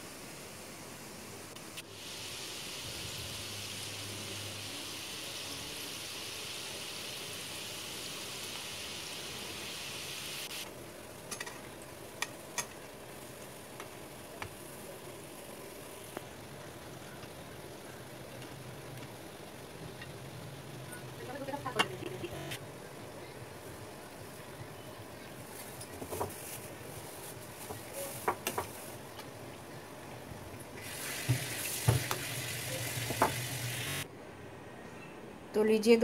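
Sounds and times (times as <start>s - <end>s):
food deep-frying in oil: 0.3s - 22.0s, 23.8s - 34.1s.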